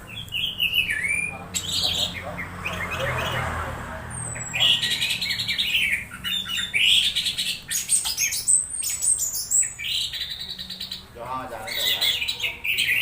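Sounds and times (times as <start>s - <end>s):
thrush chattering song: 0.0s - 13.0s.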